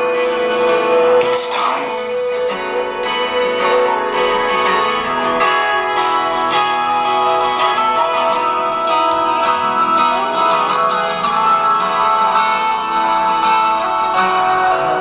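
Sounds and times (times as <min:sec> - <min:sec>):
plucked guitar music from small speaker: 0:00.0 - 0:15.0.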